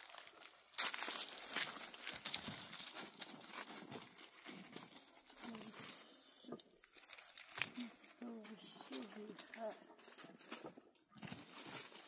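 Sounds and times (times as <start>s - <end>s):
dry crinkling and rustling: 0.0s - 12.0s.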